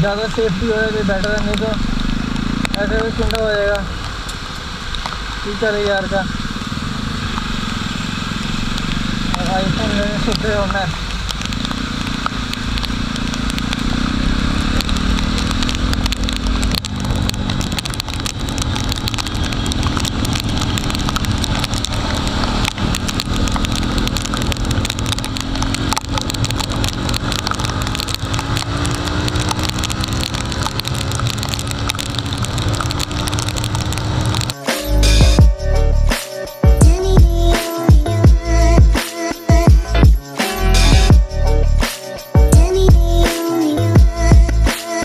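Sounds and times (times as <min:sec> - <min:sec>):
rain ticks on microphone: 0:00.0 - 0:41.2
motorcycle engine running: 0:00.0 - 0:44.7.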